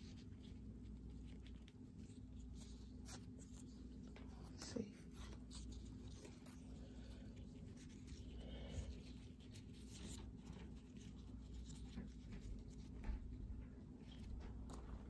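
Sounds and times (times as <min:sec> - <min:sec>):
low steady hum: 0:00.0 - 0:15.0
ribbon rustling and scratching: 0:00.0 - 0:15.0.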